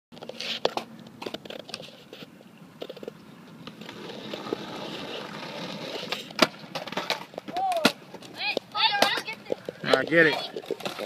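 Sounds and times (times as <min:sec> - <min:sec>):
skateboard wheels rolling on concrete: 0:00.1 - 0:11.0.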